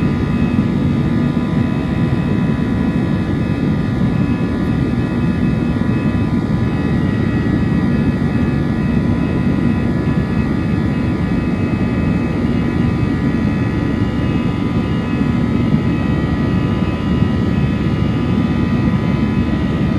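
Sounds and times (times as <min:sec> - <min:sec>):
jet engines roaring: 0:00.0 - 0:19.9.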